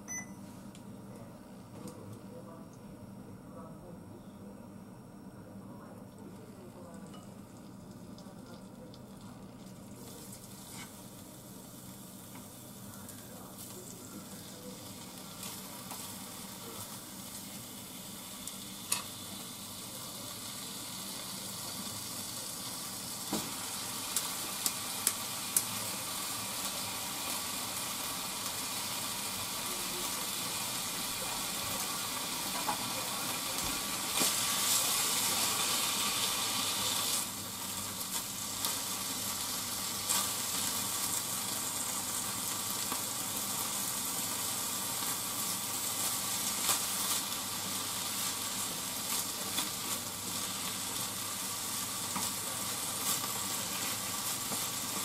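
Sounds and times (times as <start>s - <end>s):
cabbage frying: 6.1s - 55.0s
meat sizzling in a frying pan: 7.2s - 55.0s.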